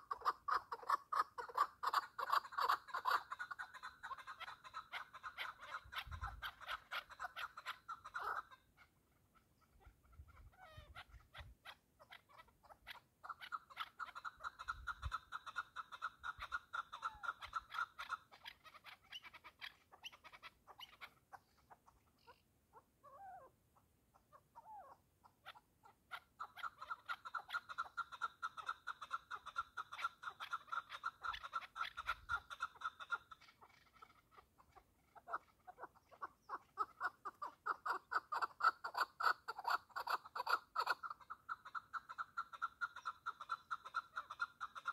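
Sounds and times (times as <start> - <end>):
partridge clucking calls: 0.0 - 44.9.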